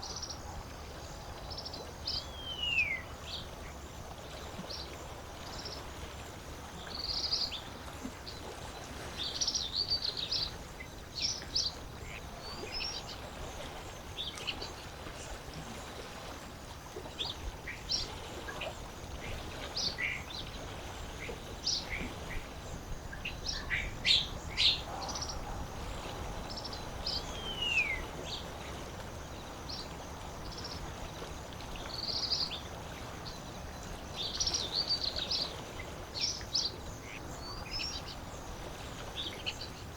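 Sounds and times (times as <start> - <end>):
lake water washing: 0.0 - 39.9.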